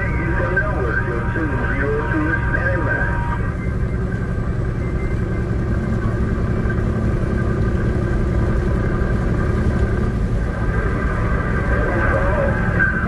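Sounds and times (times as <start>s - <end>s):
road and engine rumble in cabin: 0.0s - 13.0s.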